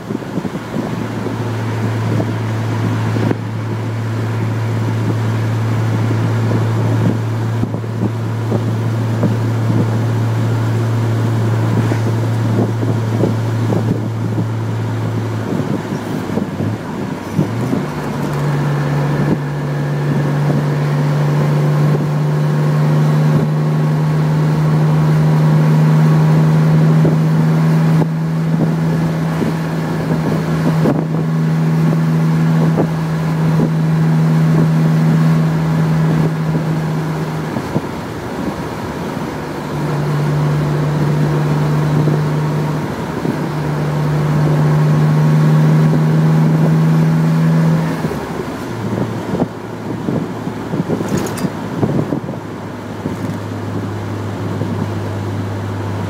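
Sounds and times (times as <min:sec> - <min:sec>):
car engine drone from inside: 0:00.0 - 0:56.0.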